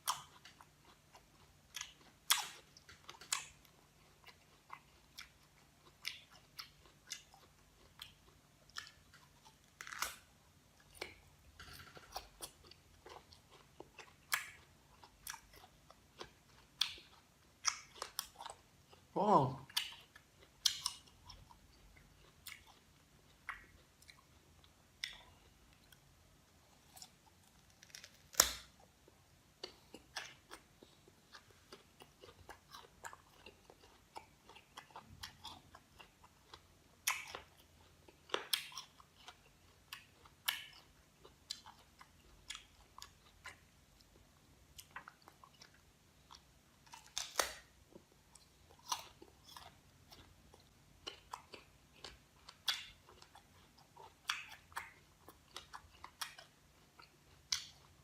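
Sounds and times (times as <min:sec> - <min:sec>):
crunchy chewing of fruit: 0:00.0 - 0:58.0.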